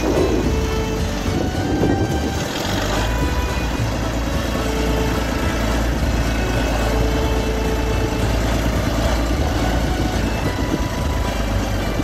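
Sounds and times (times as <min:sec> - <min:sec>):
crawler tractor engine running: 0:00.0 - 0:12.0.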